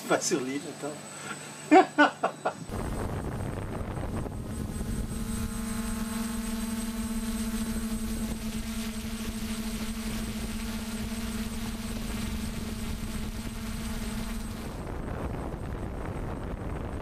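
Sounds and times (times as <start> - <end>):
drone propellers humming: 0.7 - 17.0.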